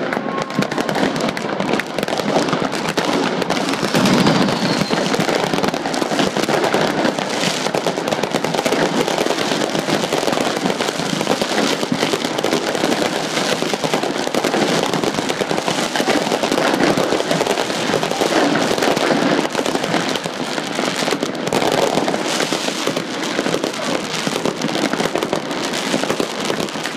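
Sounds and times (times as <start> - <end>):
fireworks crackling and popping: 0.0 - 26.9.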